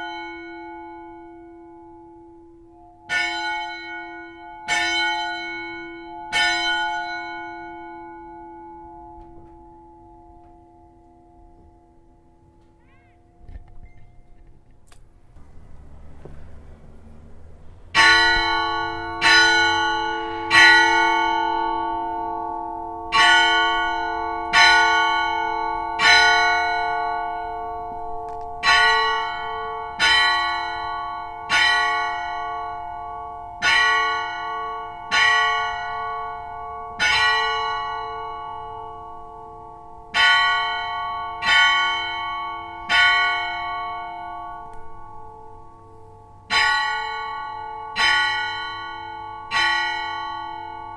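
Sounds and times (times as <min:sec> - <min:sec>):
church bells ringing: 0:00.0 - 0:14.4, 0:15.4 - 0:50.9.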